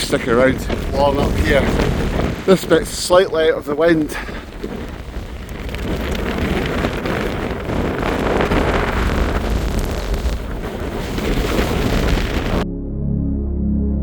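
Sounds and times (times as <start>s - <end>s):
strong wind buffeting microphone: 0.0s - 12.6s.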